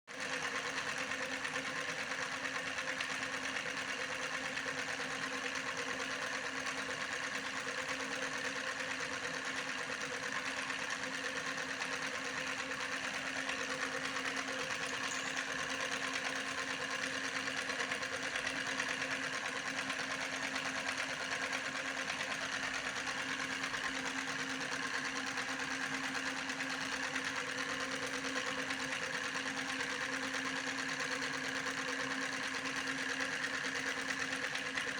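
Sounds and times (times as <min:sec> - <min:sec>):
small motor whirring: 0:00.1 - 0:34.9.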